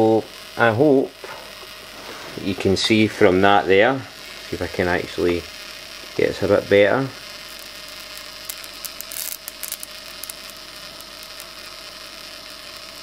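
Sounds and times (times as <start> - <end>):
electric sparks snapping: 0.0 - 13.0
steady electrical buzz: 0.0 - 13.0.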